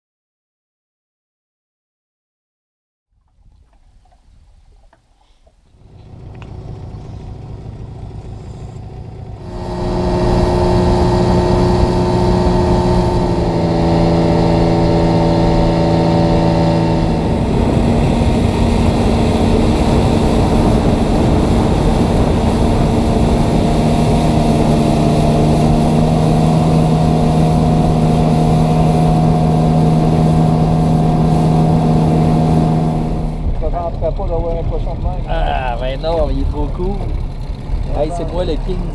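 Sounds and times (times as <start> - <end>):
boat motor running: 5.7 - 38.9.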